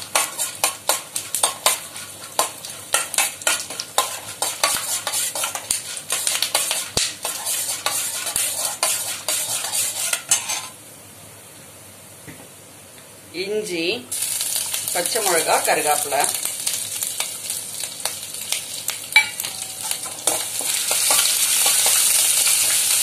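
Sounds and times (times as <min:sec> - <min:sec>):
faint frying sizzle: 0:00.0 - 0:23.0.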